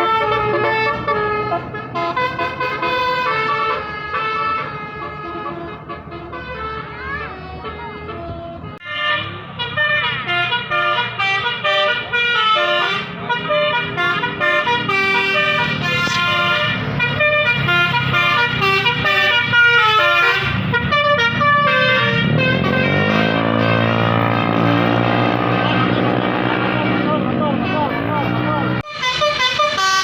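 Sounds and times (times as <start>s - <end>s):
musical air horns: 0.0s - 30.0s.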